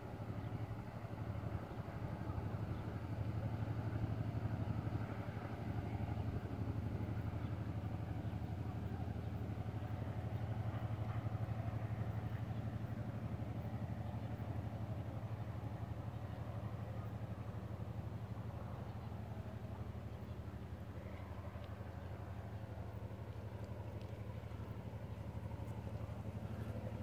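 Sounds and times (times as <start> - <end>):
low throbbing engine drone: 0.0 - 27.0.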